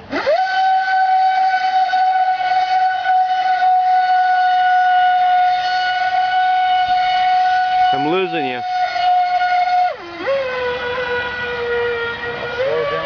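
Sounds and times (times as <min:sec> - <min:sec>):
boat motor whining high-pitched: 0:00.0 - 0:13.0.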